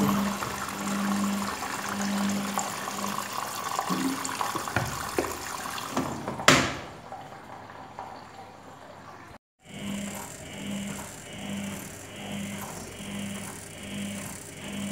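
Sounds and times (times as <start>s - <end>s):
water rushing into washing machine: 0.0s - 14.9s.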